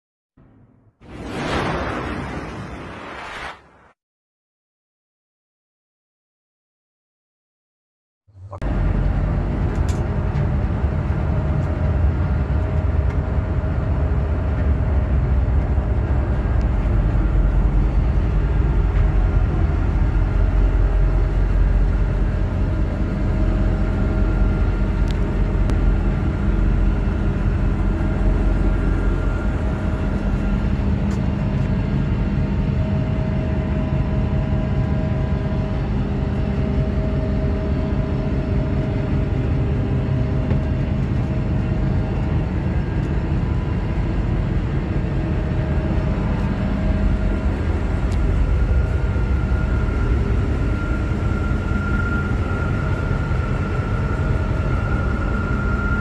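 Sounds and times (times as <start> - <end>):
engine room machinery rumble: 8.3 - 56.0
steady machinery hums: 8.4 - 56.0.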